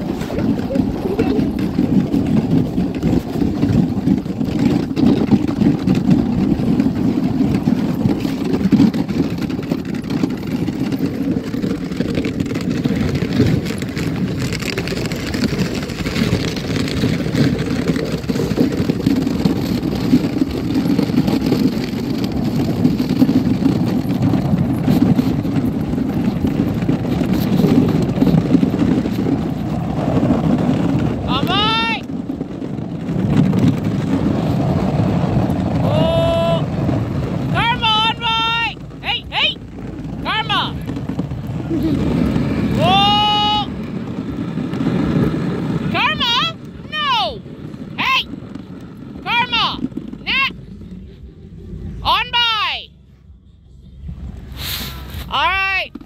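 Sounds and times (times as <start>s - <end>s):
sled runners sliding over snow: 0.0s - 56.0s
wind buffeting microphone: 0.0s - 56.0s.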